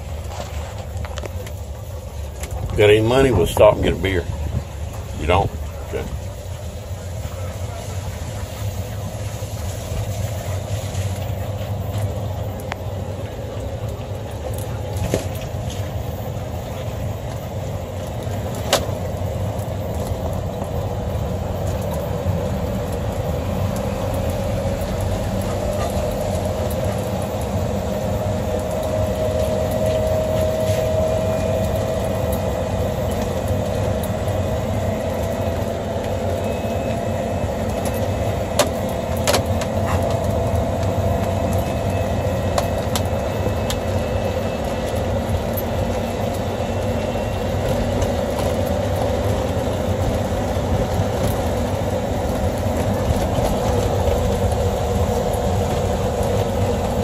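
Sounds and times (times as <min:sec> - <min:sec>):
thin whine: 0:00.0 - 0:57.0
vehicle driving on wet road: 0:00.0 - 0:57.0.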